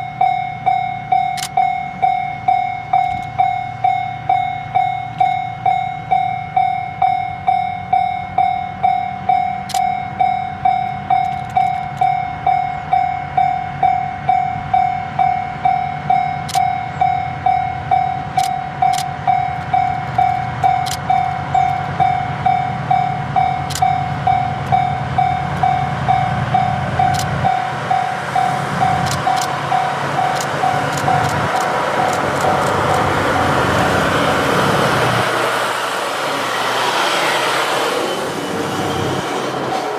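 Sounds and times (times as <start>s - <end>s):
level-crossing alarm bell ringing: 0.0s - 35.6s
diesel locomotive humming: 0.0s - 39.9s
train rumbling with clicks: 0.0s - 39.9s.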